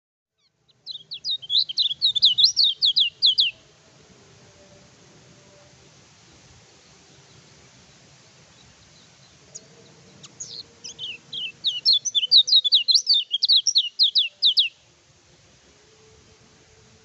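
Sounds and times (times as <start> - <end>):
songbird singing: 0.4 - 17.0.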